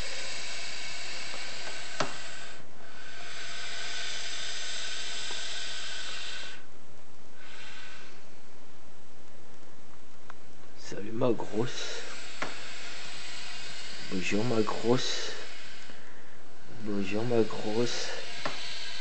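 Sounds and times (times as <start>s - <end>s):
snake hissing: 0.0s - 8.7s, 10.4s - 19.0s.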